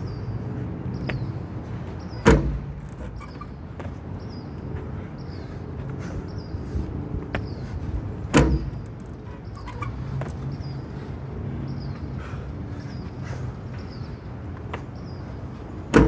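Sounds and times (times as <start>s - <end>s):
low hum of traffic: 0.0s - 16.0s.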